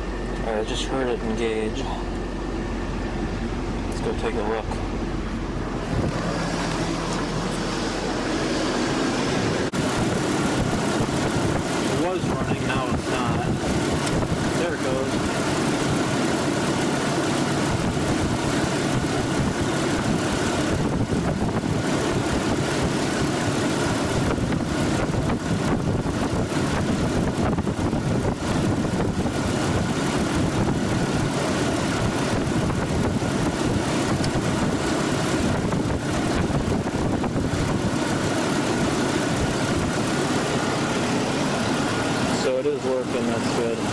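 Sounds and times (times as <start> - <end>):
air-conditioning compressor running: 0.0 - 43.9
car engine idling: 0.0 - 43.9.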